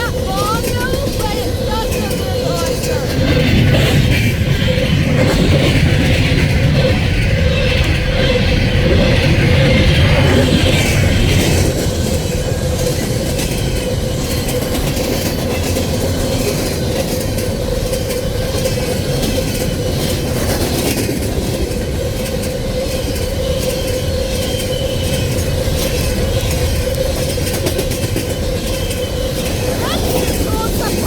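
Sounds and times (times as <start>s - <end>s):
freight train wheels clicking: 0.0s - 31.0s
train rumble: 0.0s - 31.0s.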